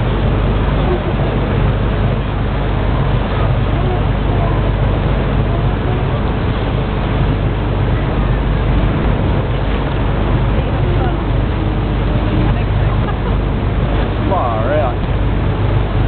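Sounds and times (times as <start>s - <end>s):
motorboat engine running: 0.0s - 16.0s
wind and water rushing: 0.0s - 16.0s.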